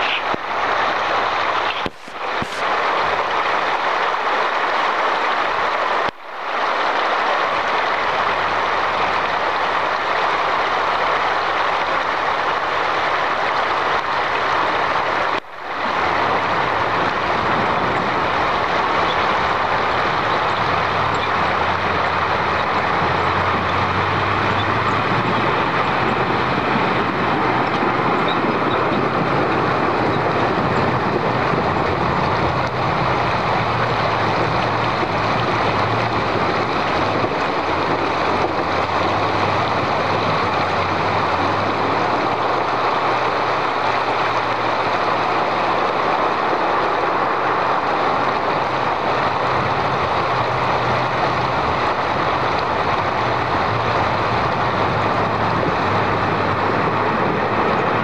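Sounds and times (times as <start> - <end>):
diesel engine running low: 0.0 - 58.0
river water rushing: 0.0 - 58.0.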